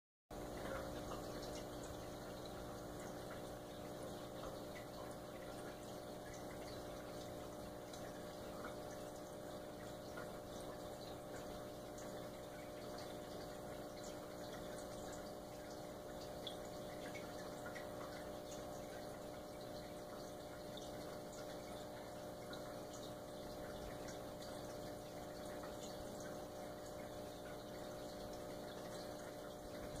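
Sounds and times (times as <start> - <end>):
faint hum and hiss: 0.3 - 30.0.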